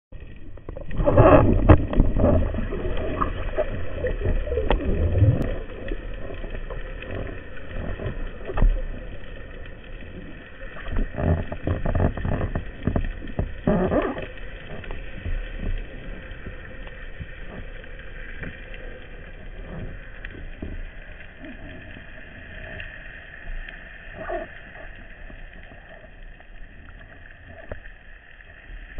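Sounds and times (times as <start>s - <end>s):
muffled underwater rushing: 0.1s - 28.9s
faint clicks: 0.2s - 28.9s.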